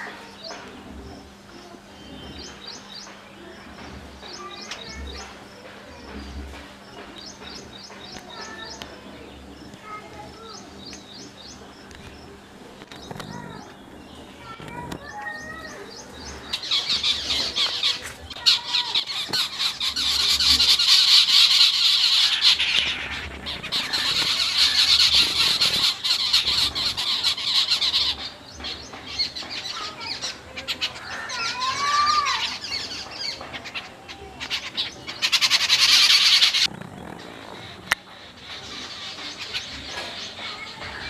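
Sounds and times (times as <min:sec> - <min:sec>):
birds squawking chatter: 0:00.0 - 0:41.0.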